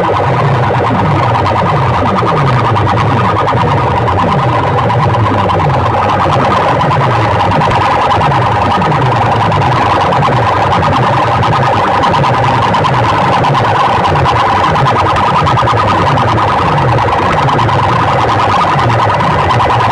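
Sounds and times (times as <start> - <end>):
falling bass sweep: 0.0 - 17.3
distorted electronic music: 0.0 - 19.9
siren-like tone: 0.0 - 19.9.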